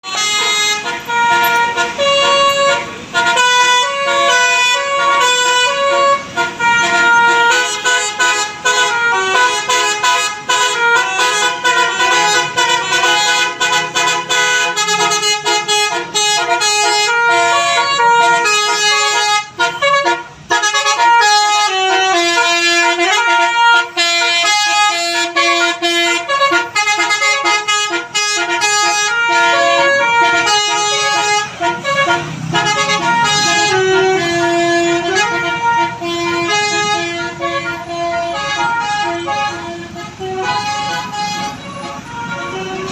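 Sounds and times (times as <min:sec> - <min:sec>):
musical air horn melody: 0:00.0 - 0:42.9.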